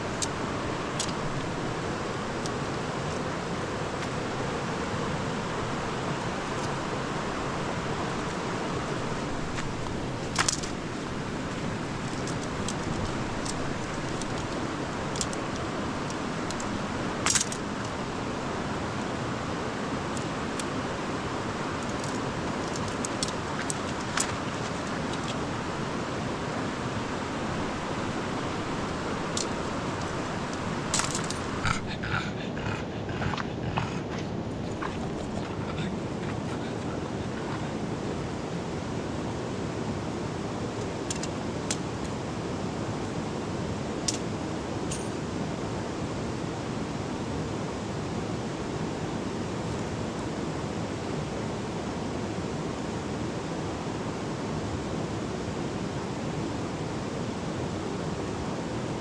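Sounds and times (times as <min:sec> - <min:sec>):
river flowing: 0:00.0 - 0:51.6.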